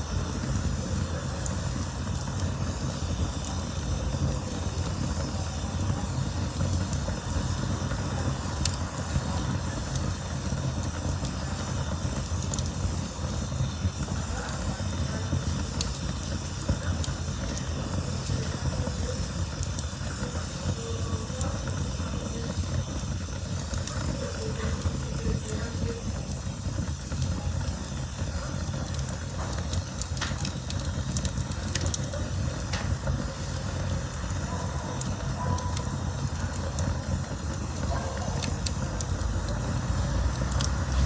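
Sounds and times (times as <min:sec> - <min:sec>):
campfire rumble and hiss: 0:00.0 - 0:41.0
fire crackling and popping: 0:00.0 - 0:41.0.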